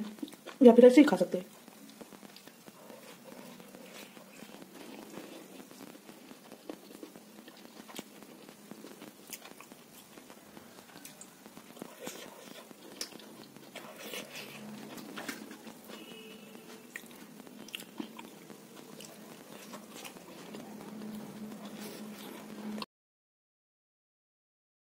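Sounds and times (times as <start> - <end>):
person chewing food: 0.0 - 0.6, 1.5 - 22.8
small clicks and crunches: 1.5 - 22.8.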